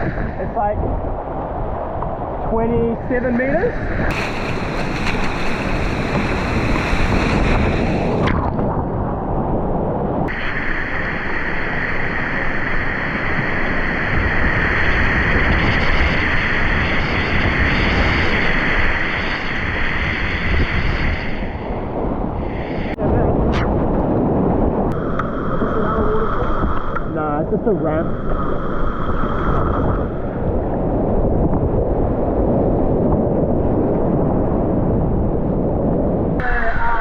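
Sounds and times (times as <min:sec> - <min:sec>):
wind noise on microphone: 0:00.0 - 0:37.0.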